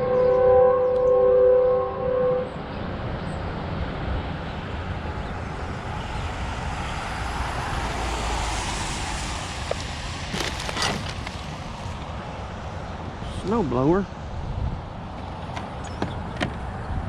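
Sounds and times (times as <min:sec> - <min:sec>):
vehicle road noise: 0:02.0 - 0:17.0.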